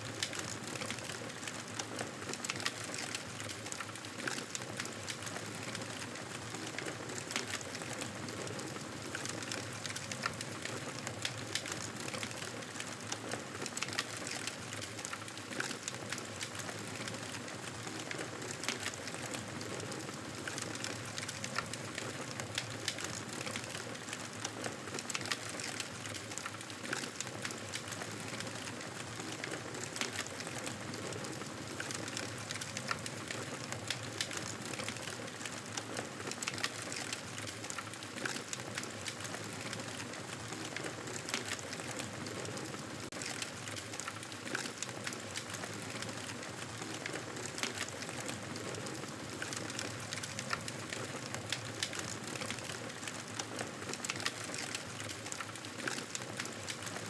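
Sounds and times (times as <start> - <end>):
campfire crackling and popping: 9.0 - 57.0.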